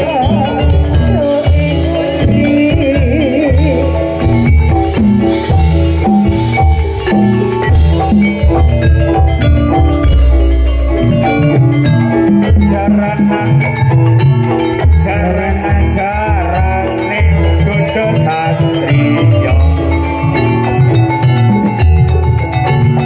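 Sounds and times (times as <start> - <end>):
drum strokes: 0.0 - 23.0
struck bronze metallophones: 0.0 - 23.0.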